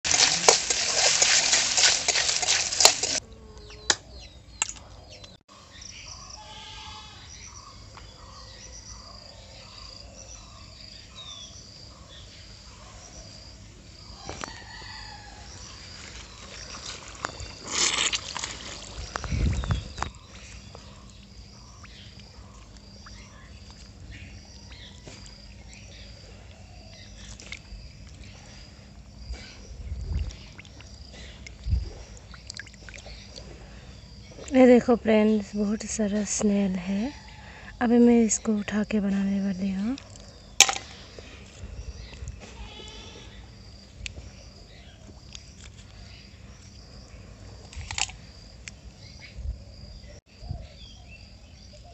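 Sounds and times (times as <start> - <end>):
birds chirping: 3.1 - 17.6, 18.2 - 47.4.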